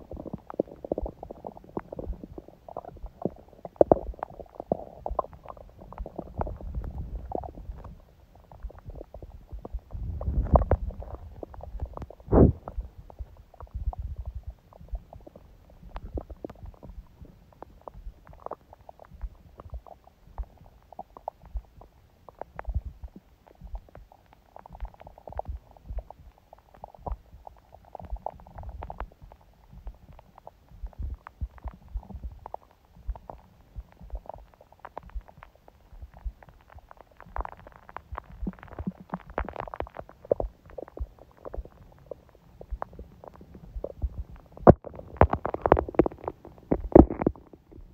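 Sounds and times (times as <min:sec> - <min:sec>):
stomach gurgling: 0:00.0 - 0:47.9.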